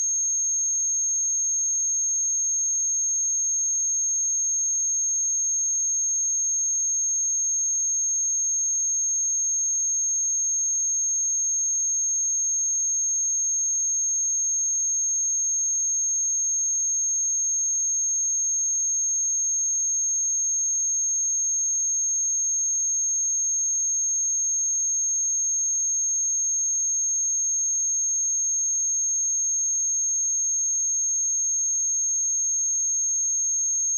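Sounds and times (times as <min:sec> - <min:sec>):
high-pitched sine test tone: 0:00.0 - 0:33.9.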